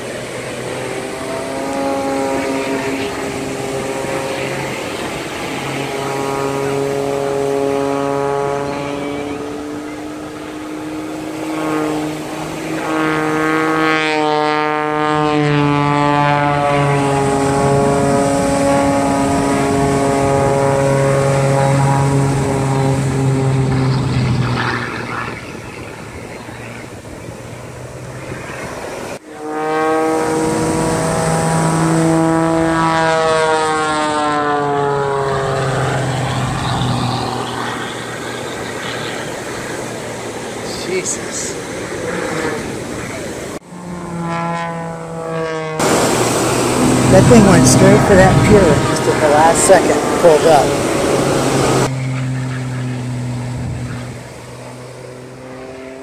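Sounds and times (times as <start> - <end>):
propeller plane engine overhead: 0.0 - 56.0.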